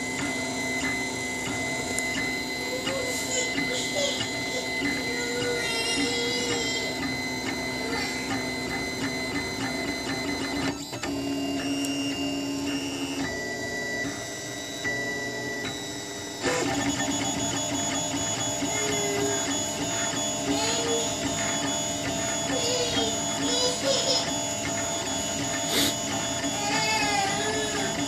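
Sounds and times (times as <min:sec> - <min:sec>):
stepper motors whining: 0:00.0 - 0:28.0.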